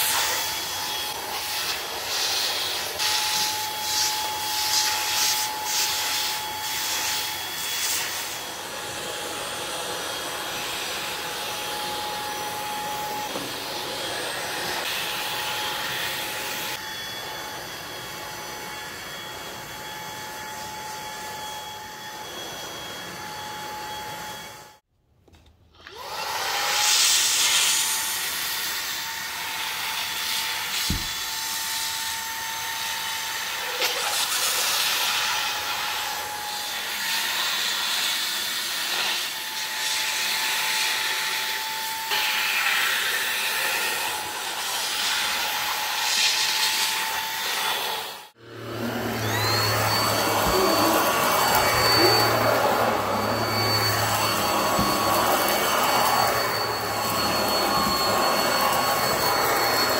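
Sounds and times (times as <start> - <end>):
vacuum cleaner motor whine: 0.0 - 24.9, 25.8 - 59.9.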